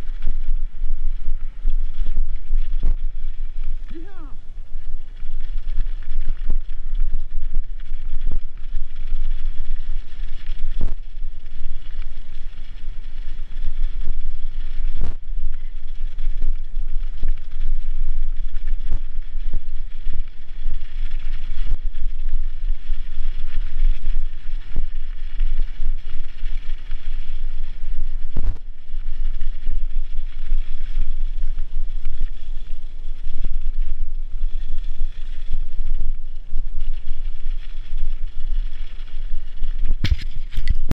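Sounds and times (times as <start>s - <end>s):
bicycle tyres rumbling on trail: 0.0s - 40.9s
bike rattling: 0.0s - 40.9s.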